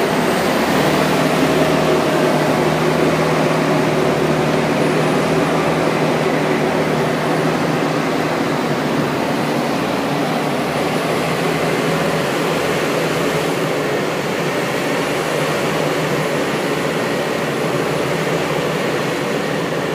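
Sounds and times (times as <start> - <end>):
forage harvester diesel engine drone: 0.0 - 19.9.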